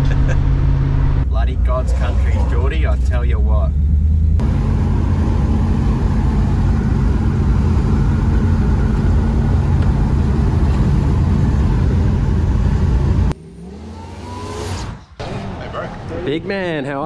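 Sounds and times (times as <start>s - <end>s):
wind and road noise: 0.0s - 16.8s
car engine drone: 0.0s - 17.0s.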